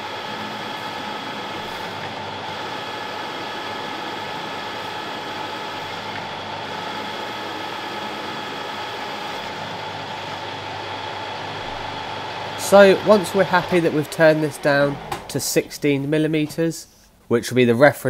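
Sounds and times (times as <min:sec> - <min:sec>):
lathe cutting steel: 0:00.0 - 0:16.6
metal lathe whine: 0:00.0 - 0:16.6.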